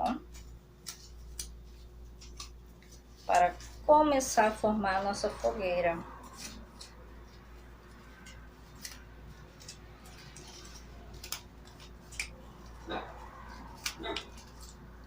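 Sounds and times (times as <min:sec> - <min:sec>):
paper rustling: 0:00.3 - 0:04.6, 0:05.4 - 0:15.0.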